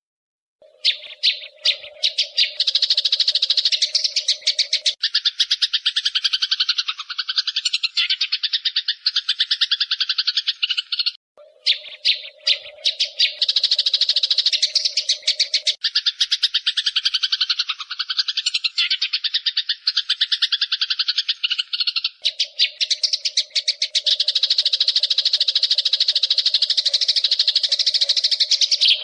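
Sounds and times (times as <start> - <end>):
sparrows chattering harsh chirps: 0.6 - 29.0.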